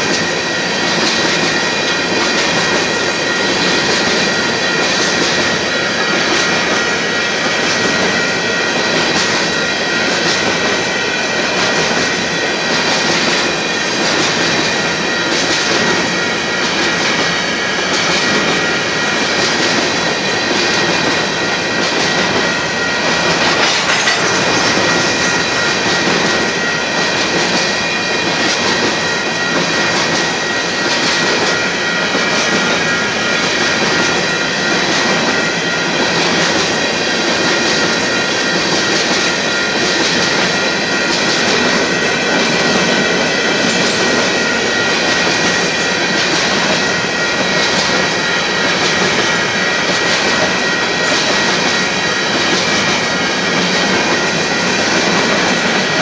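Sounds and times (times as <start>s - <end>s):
steel wheels on rails: 0.0s - 56.0s.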